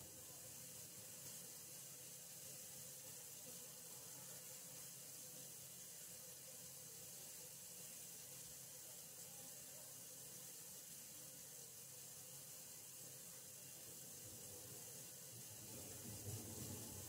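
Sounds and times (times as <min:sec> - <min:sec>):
water running through pipes: 0:00.0 - 0:17.0.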